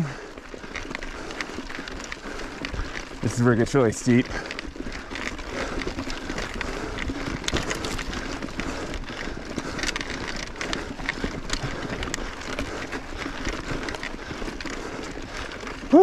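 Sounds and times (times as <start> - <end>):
bike tyres crunching over rock: 0.0 - 16.0.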